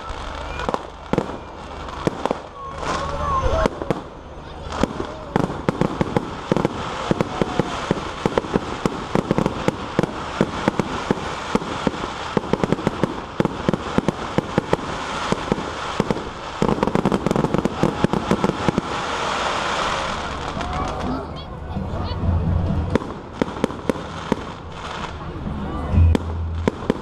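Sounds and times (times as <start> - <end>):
steady noisy background: 0.0 - 27.0.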